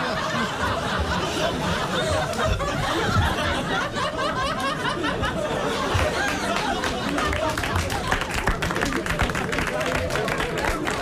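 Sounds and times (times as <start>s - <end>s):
audience laughing and chattering: 0.0s - 11.0s.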